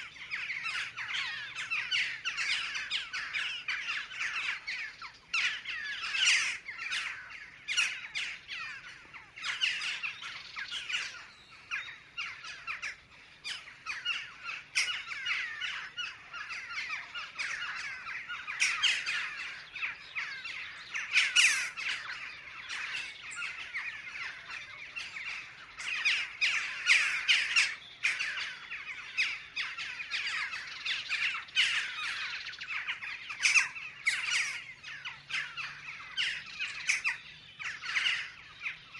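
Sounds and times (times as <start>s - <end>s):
jackdaws calling: 0.0s - 38.9s.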